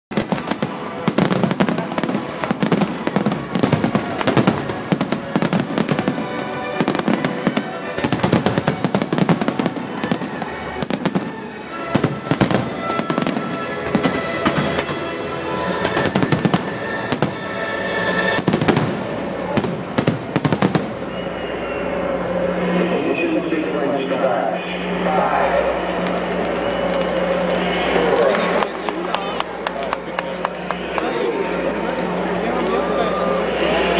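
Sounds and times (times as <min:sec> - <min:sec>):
fireworks bursts and crackling: 0:00.1 - 0:33.9
music playing: 0:00.1 - 0:33.9.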